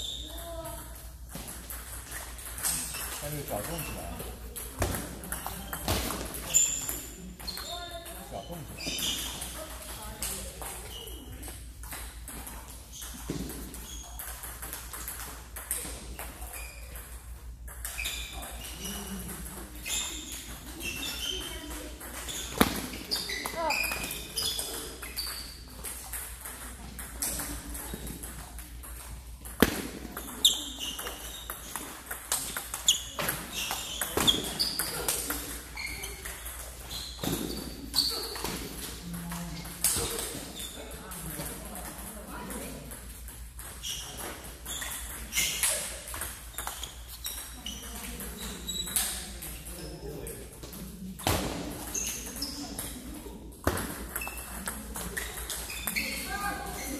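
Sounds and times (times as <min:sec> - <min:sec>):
sneakers squeaking: 0:00.0 - 0:56.9
table tennis balls clicking: 0:00.9 - 0:08.2, 0:09.1 - 0:37.4, 0:38.1 - 0:49.8, 0:53.7 - 0:56.9.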